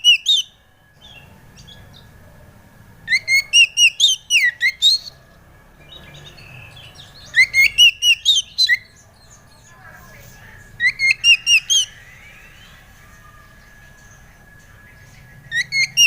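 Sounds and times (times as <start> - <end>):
bird singing whistled notes: 0.0 - 2.1, 3.0 - 5.2, 5.8 - 9.8, 10.6 - 16.0.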